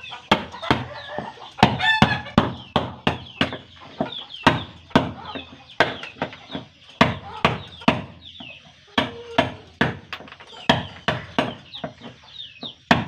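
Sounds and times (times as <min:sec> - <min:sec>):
chickens clucking: 0:00.0 - 0:13.0
hammering wooden pegs: 0:00.0 - 0:13.0.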